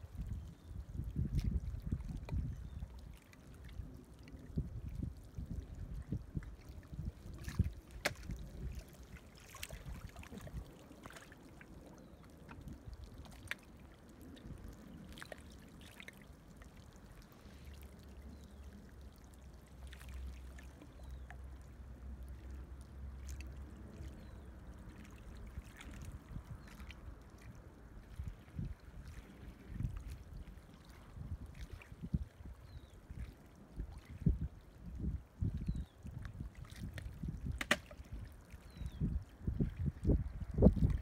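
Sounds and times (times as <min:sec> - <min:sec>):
small waves lapping on shore: 0:01.3 - 0:05.4, 0:06.3 - 0:41.0.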